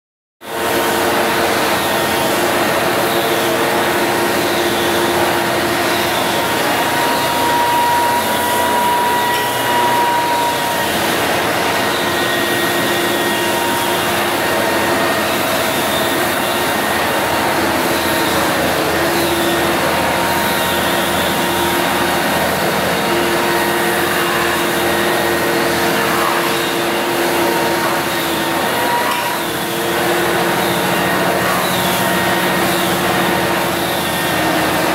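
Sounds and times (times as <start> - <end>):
floor sander running: 0.4 - 34.9
small power tool running: 0.5 - 34.9.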